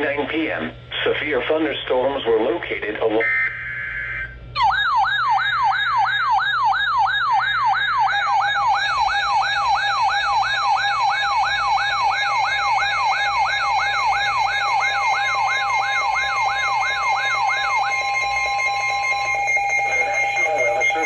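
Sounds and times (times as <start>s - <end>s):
electronic siren sweeping down: 3.2s - 21.0s
steady electronic tone: 3.2s - 21.0s.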